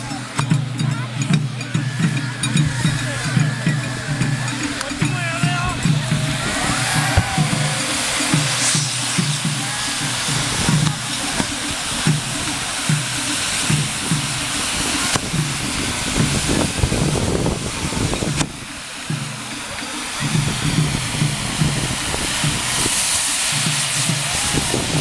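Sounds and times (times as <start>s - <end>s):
taiko drumbeat: 0.0s - 22.8s
fireworks hissing: 0.0s - 25.0s.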